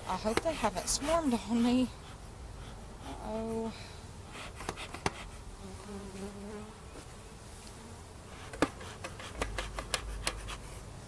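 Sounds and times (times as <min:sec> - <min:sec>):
bee droning close by: 0:00.0 - 0:09.8
bees buzzing: 0:00.0 - 0:11.0.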